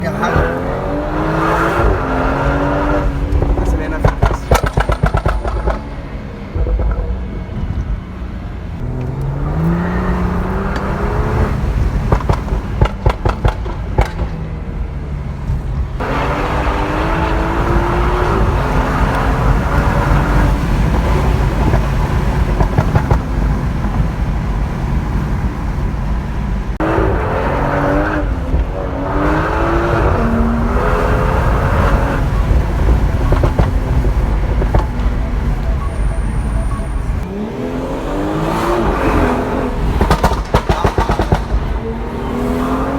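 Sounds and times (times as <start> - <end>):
exhaust crackles and pops: 0.0 - 27.2, 27.8 - 37.3, 38.8 - 42.4
car engine revving: 0.0 - 42.9.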